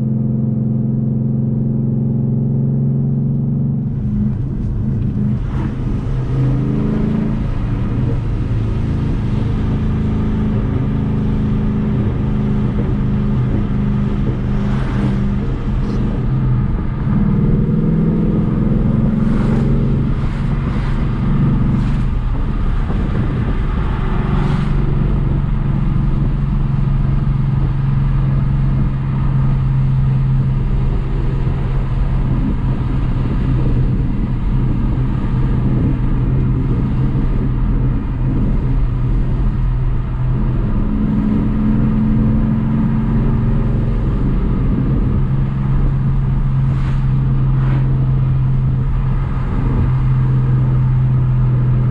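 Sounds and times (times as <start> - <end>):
car engine and exhaust droning: 0.0 - 51.9.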